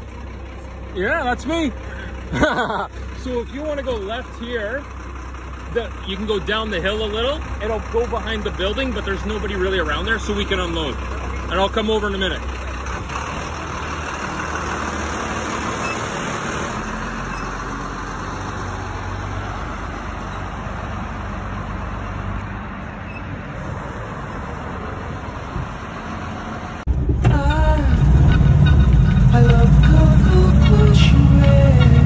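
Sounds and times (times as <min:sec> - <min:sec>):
deep engine rumble: 0:00.0 - 0:32.0
street traffic: 0:00.0 - 0:32.0
truck engine running: 0:00.0 - 0:32.0.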